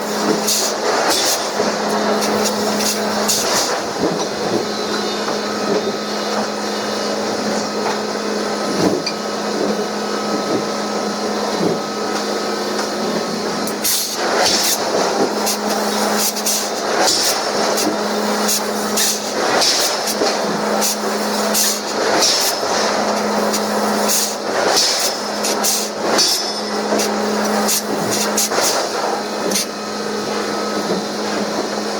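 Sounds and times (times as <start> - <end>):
machinery low hum: 0.0 - 31.9.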